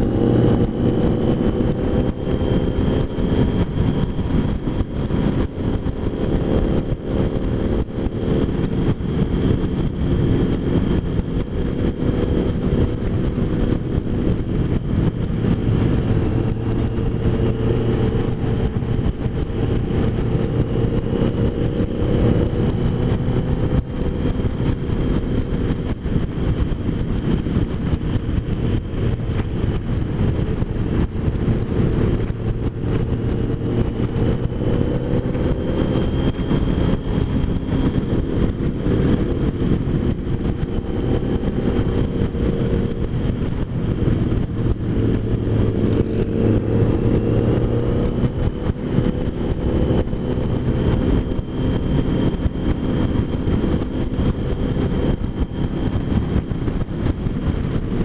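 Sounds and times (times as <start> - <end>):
motorcycle engine cruising: 0.0 - 58.0
road noise: 0.0 - 58.0
wind noise: 0.0 - 58.0.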